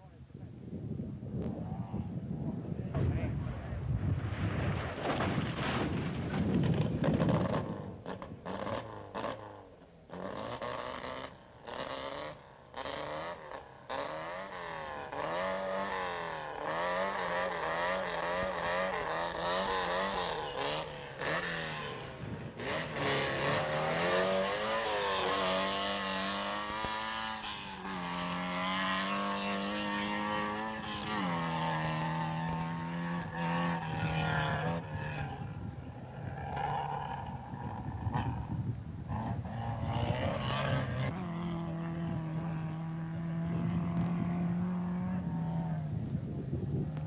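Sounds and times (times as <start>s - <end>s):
racing engine at high revs: 6.7s - 47.0s.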